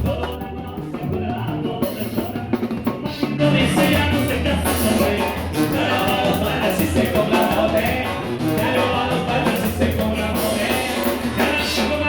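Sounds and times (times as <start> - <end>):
person singing: 0.0 - 12.0
upbeat latin dance music: 0.0 - 12.0.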